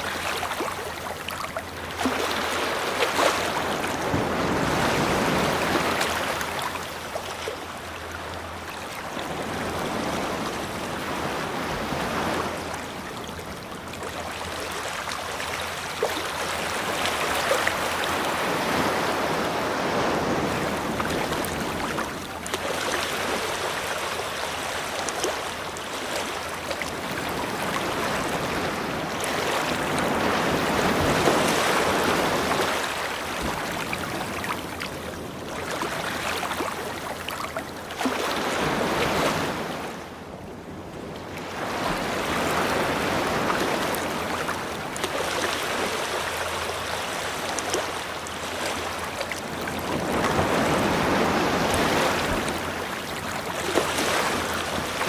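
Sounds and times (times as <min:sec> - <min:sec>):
ocean waves washing onto beach: 0:00.0 - 0:55.0.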